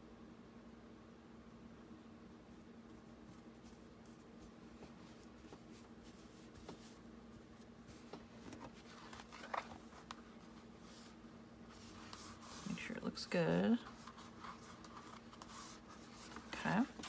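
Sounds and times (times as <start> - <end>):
fabric rustling and scraping: 2.9 - 17.0.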